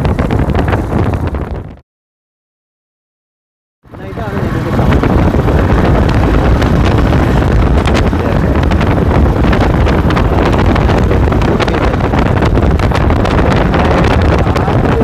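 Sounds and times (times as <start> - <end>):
wind buffeting microphone: 0.0 - 1.8, 3.9 - 15.0.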